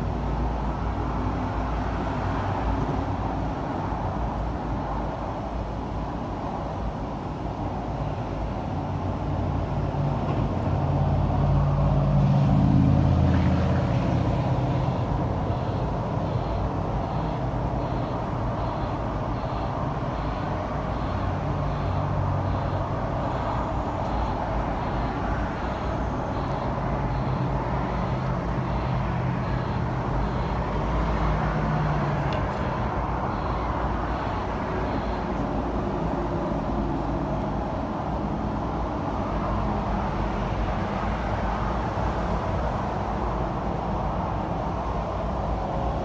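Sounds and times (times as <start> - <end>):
continuous rumble and hiss: 0.0 - 46.0.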